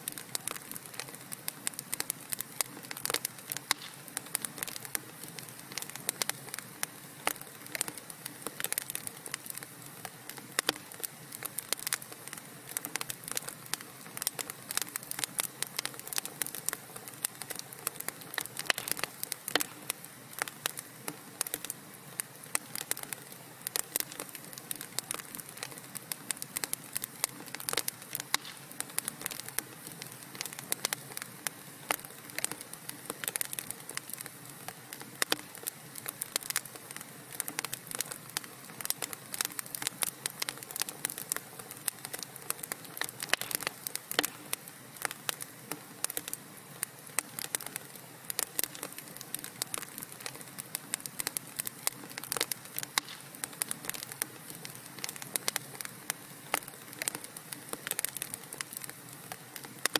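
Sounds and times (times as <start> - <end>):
soft steady hiss: 0.0 - 59.9
wood fire crackling: 0.0 - 59.9.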